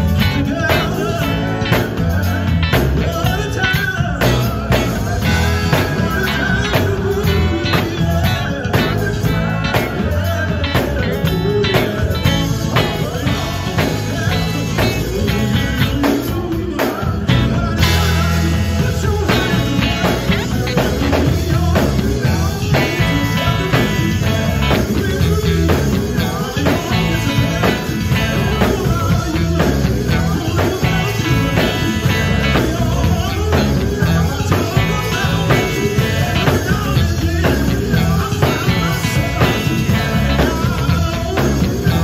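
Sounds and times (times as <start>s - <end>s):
drum kit: 0.0s - 42.0s
electric bass: 0.0s - 42.0s
electric guitar: 0.0s - 42.0s
person singing through speakers: 0.0s - 42.0s.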